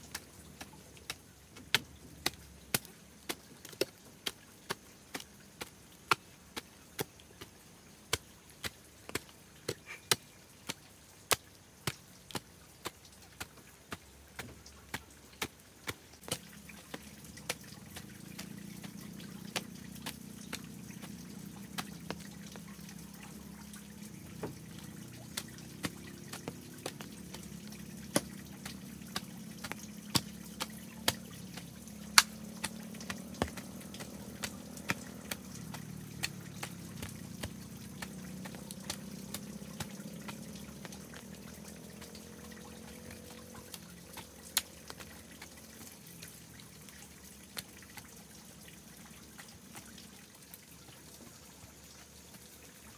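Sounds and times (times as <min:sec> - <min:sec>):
hoe chopping into soil: 0:00.0 - 0:46.0
low steady hum: 0:00.0 - 0:52.9.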